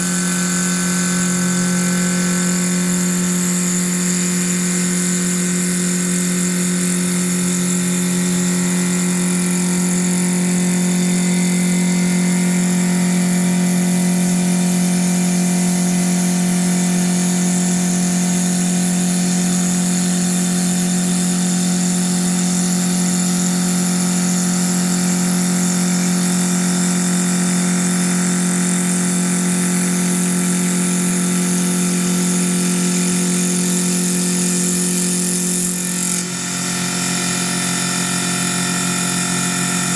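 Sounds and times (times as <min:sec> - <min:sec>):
wood lathe humming: 0:00.0 - 0:28.6, 0:29.4 - 0:39.9.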